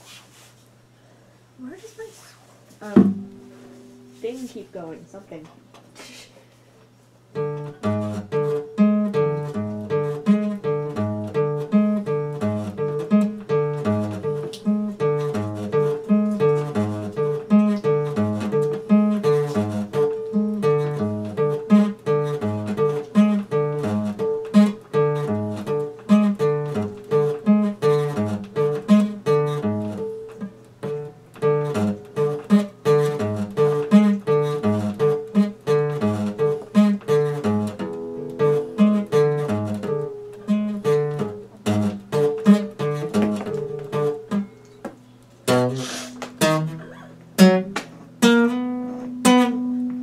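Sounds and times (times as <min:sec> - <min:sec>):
picked acoustic guitar: 0:02.8 - 0:05.2, 0:06.5 - 0:50.0.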